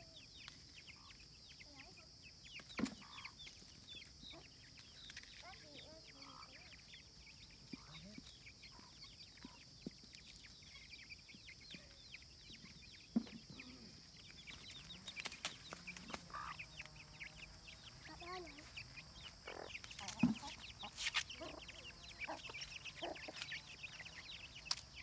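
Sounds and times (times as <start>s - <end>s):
chicks peeping: 0.0s - 25.0s
hen clucking: 2.7s - 4.6s, 5.4s - 25.0s.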